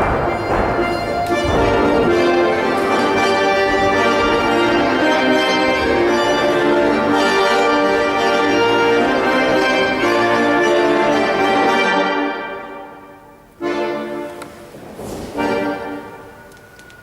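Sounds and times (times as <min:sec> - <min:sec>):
organ-like instrumental chords: 0:00.0 - 0:14.7.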